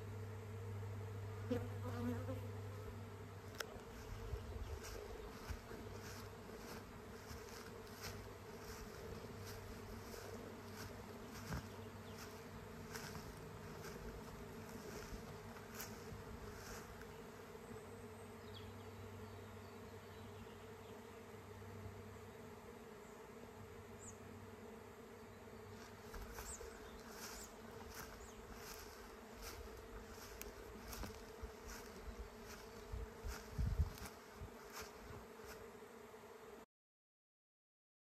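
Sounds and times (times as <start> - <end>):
bees buzzing: 0.0 - 36.6.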